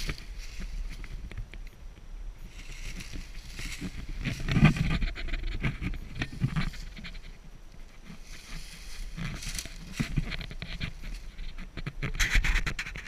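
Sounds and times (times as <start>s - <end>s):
dry leaves crunching and rustling: 0.0s - 1.4s, 2.5s - 12.1s.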